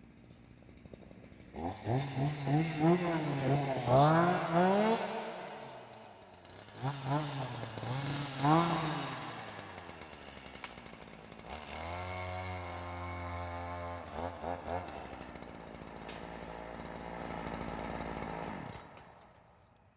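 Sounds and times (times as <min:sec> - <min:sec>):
chainsaw revving: 0:00.0 - 0:19.8.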